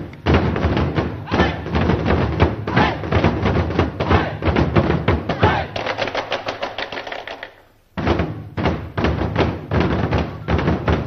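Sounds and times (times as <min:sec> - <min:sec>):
ensemble barrel drumming: 0:00.0 - 0:11.0.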